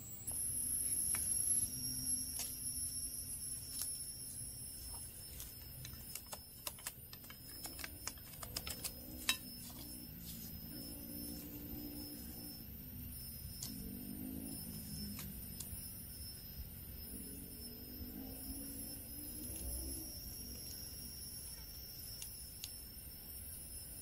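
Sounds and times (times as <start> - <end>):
high-pitched hum: 0.0 - 24.0.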